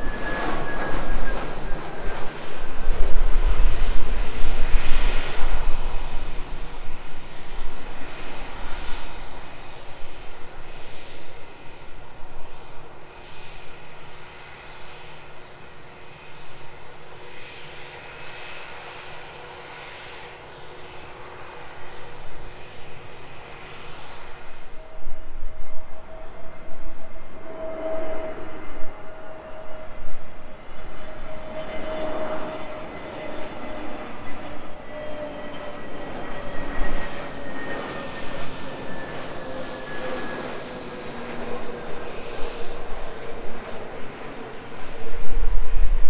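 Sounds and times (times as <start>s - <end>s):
jet engines rumbling: 0.0s - 46.0s.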